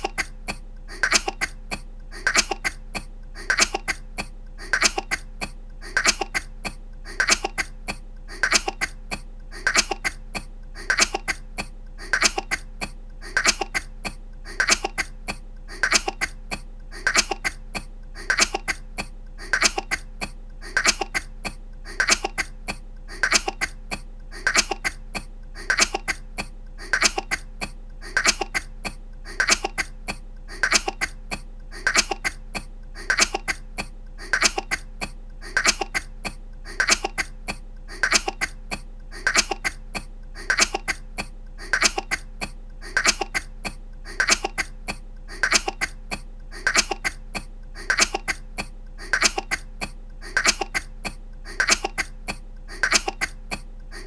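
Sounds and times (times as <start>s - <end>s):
faint steady hum: 0.0s - 54.0s
woman coughing: 0.0s - 54.0s.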